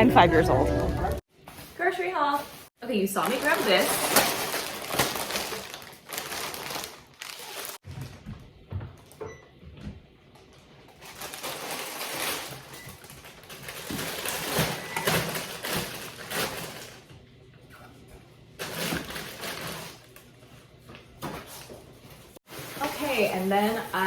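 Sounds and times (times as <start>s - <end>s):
grocery items rustling and knocking: 0.0s - 24.0s.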